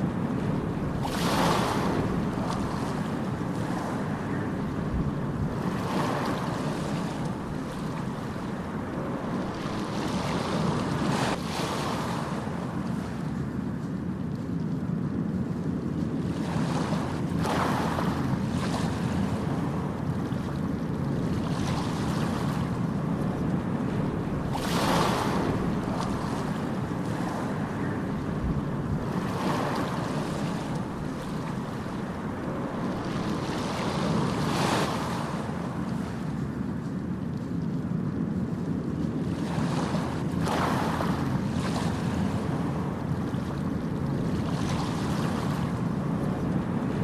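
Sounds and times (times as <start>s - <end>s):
low rumble of sea: 0.0s - 47.0s
waves breaking and washing in: 0.0s - 47.0s.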